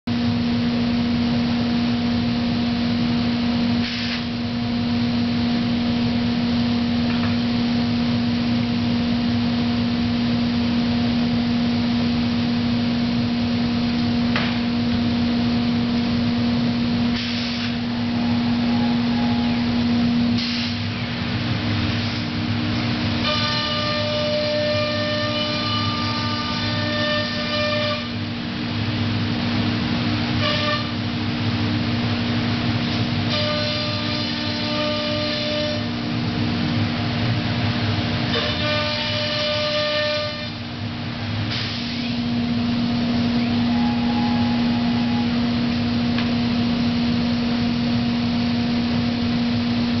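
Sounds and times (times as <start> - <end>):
high whine: 0.1 - 50.0
router running with low hum: 0.1 - 50.0.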